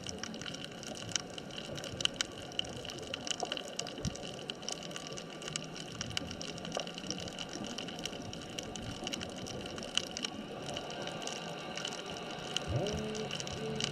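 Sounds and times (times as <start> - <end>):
sharp clicks and crackles: 0.0 - 13.9.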